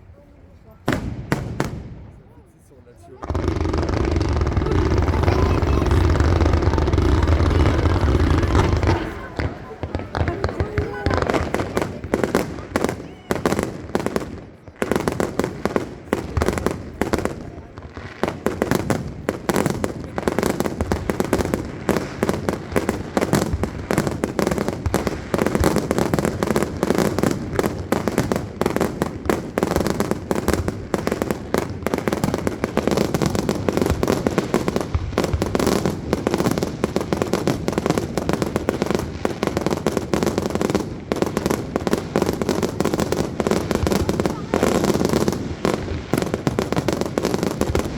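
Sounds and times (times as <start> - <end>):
fireworks bangs and crackles: 0.7 - 47.9.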